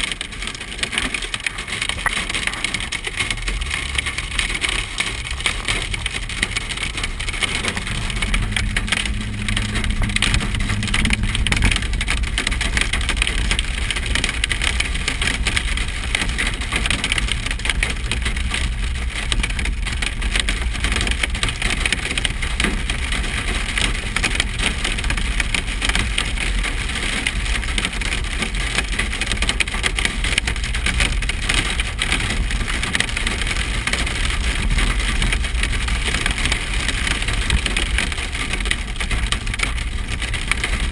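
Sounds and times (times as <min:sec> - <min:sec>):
hail pelting car roof: 0:00.0 - 0:40.9
vehicle driving rumble: 0:00.0 - 0:40.9.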